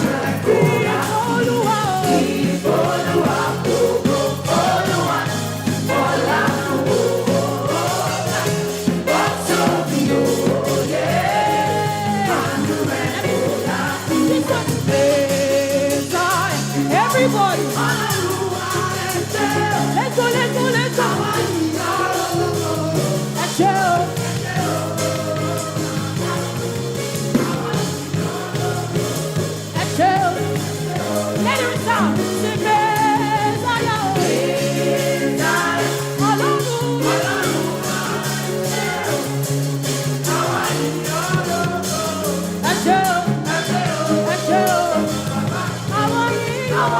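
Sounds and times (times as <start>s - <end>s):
band bass and beat: 0.0s - 46.9s.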